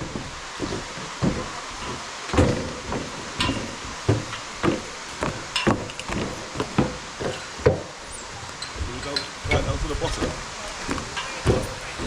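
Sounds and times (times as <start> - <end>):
footsteps walking: 0.0 - 12.0
steady hiss: 0.0 - 12.0.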